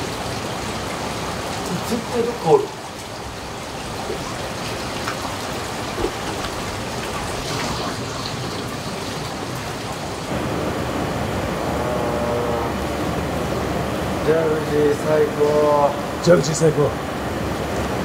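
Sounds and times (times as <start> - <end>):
underwater jets churning: 0.0 - 18.0
water rushing and splashing: 0.0 - 18.0.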